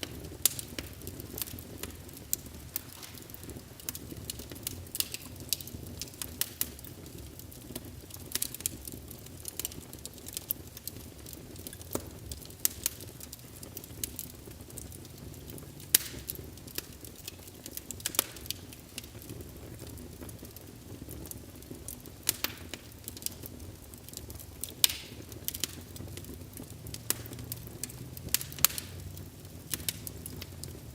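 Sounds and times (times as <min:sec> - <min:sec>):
fire crackling and popping: 0:00.0 - 0:30.9
fire low rumble: 0:00.0 - 0:30.9.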